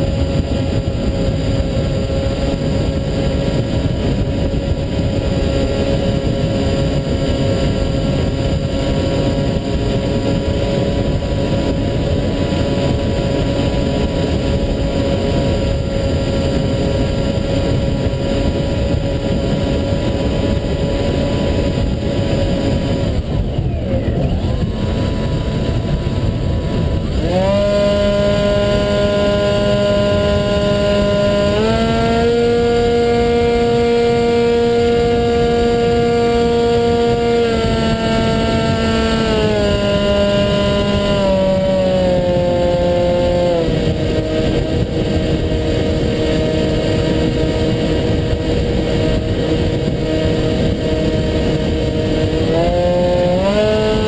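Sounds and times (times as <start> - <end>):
electric motor propeller whining: 0.0 - 54.0
rushing wind: 0.0 - 54.0.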